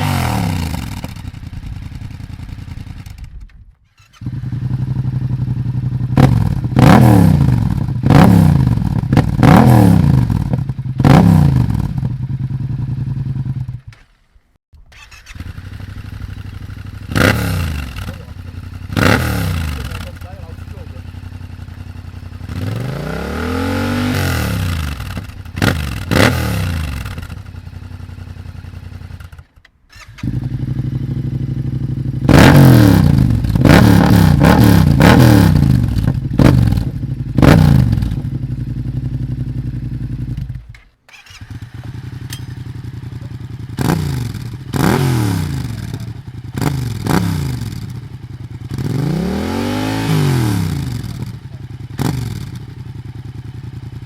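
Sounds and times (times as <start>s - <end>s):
engine revving and idling: 0.0s - 3.2s, 4.1s - 13.8s, 15.0s - 54.0s.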